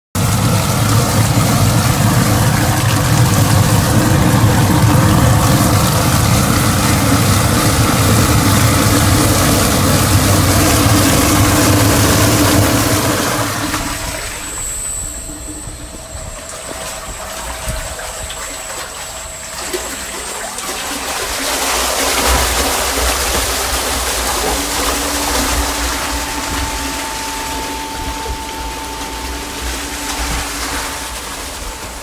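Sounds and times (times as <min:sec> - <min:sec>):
mixer churning water drone: 0:00.2 - 0:32.0.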